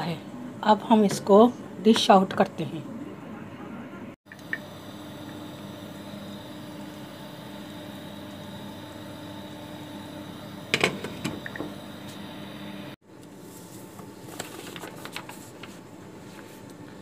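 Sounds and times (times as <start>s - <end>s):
mechanical hum with high whine: 0.0s - 17.0s.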